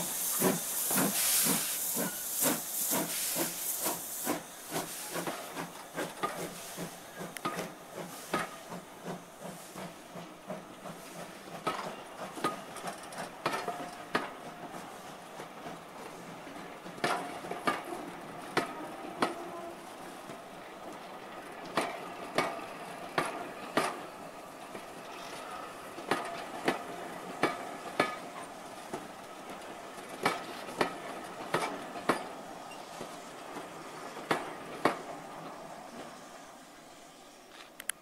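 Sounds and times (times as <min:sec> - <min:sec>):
train wheels clicking over rail joints: 0:00.0 - 0:19.5, 0:20.3 - 0:36.2
steam hiss: 0:00.0 - 0:38.0.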